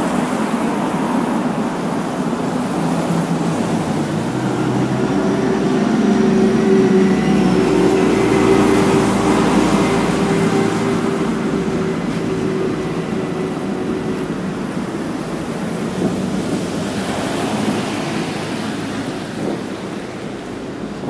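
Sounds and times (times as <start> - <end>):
cars passing: 0.0 - 21.0
heavy vehicle engine drone: 0.0 - 21.0.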